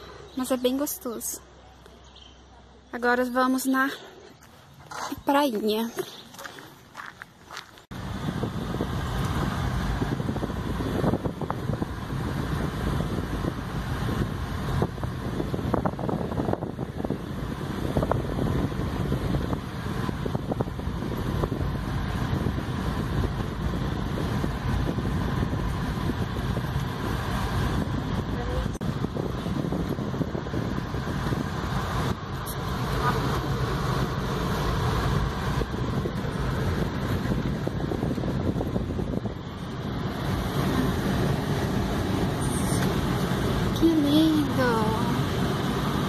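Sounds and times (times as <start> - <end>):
car engine and road rumble: 0.0 - 46.0.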